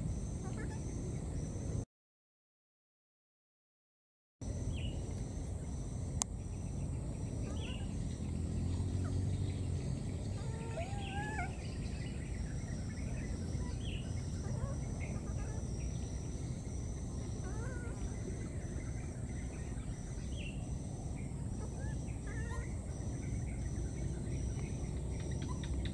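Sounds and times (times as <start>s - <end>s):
wavering call: 0.1s - 1.0s, 4.6s - 25.9s.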